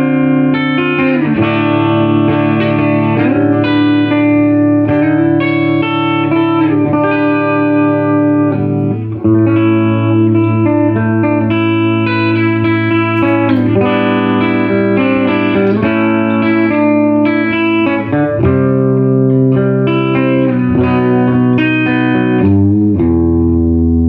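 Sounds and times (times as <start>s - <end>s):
electric guitar chords with reverb: 0.0s - 24.0s.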